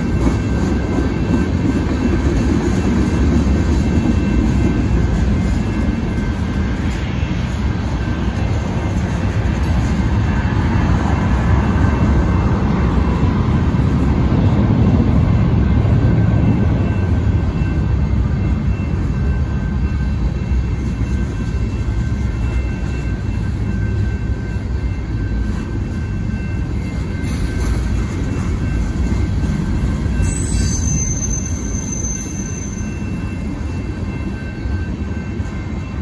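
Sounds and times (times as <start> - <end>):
crossing bells ringing: 0.0 - 36.0
train wheels rumbling on rail: 0.0 - 36.0.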